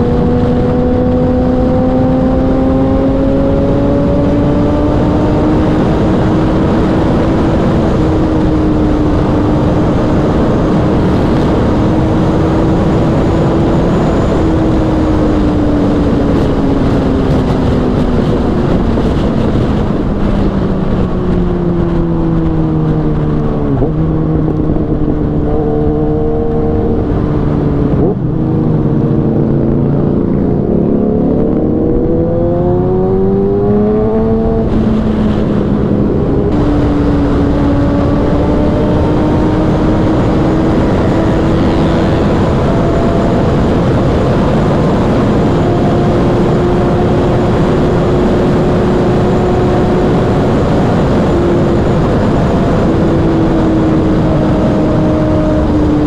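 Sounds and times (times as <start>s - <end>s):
motorcycle engine at high revs: 0.0s - 56.0s
wind noise: 0.0s - 56.0s.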